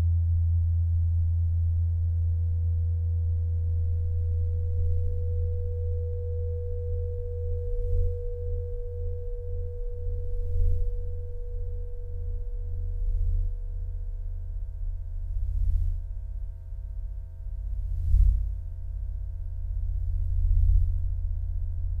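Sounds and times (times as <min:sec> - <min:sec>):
deep pulsing electronic drone: 0:00.0 - 0:22.0
steady sine-like tone: 0:00.0 - 0:22.0.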